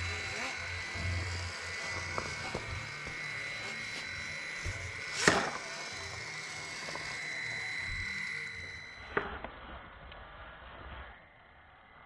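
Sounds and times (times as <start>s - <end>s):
electric motor whining: 0.0s - 11.4s.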